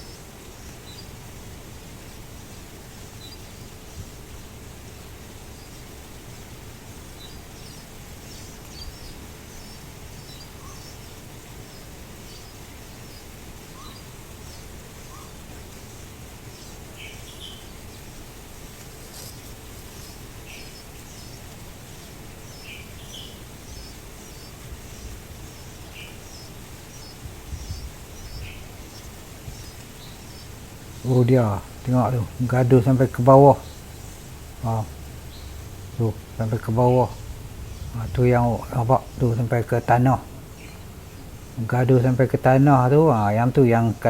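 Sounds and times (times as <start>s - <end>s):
birds chirping: 0.0s - 44.0s
low background rumble: 0.0s - 44.0s
low bird notes: 0.0s - 44.0s.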